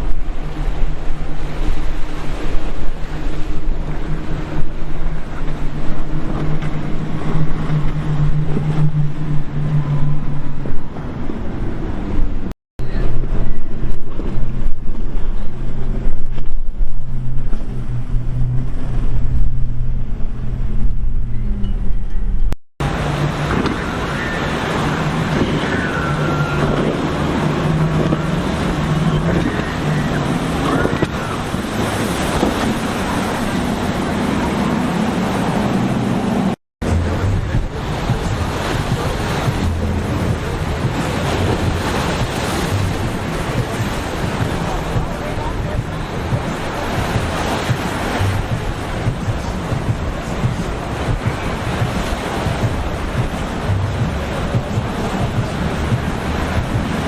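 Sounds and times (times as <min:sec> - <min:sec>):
powerboat engines droning: 0:00.0 - 0:57.0
waves: 0:00.0 - 0:57.0
wind noise on microphone: 0:00.0 - 0:57.0.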